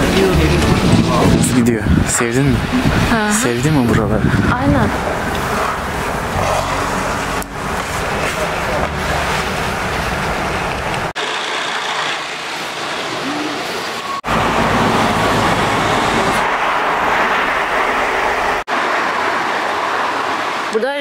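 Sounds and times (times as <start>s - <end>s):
road vehicles passing: 0.0s - 21.0s.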